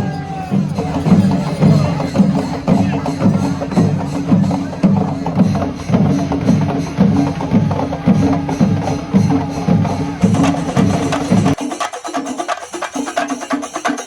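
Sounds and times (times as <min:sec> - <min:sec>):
deep drum beats: 0:00.0 - 0:13.1
high clattering drum strokes: 0:00.0 - 0:14.0
percussion ensemble drumming: 0:00.0 - 0:14.0.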